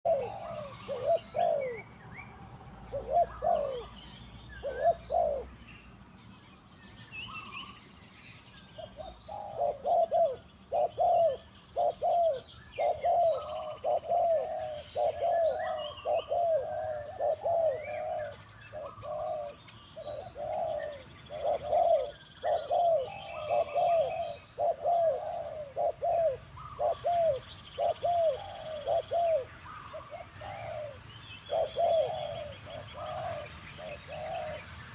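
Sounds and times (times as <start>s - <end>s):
dove cooing: 0.0s - 1.9s, 2.8s - 4.0s, 4.6s - 5.6s, 8.8s - 34.7s
small birds chirping: 0.0s - 34.9s.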